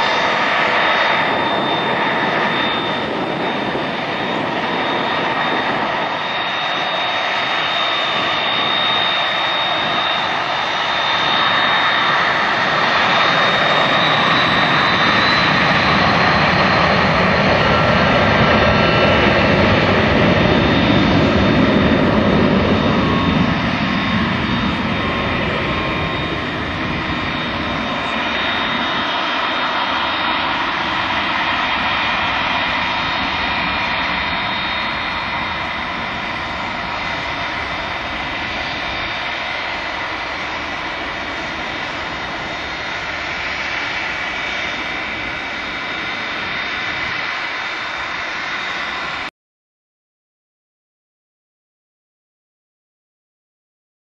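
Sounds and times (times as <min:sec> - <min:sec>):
jet engines whining: 0:00.0 - 0:49.3.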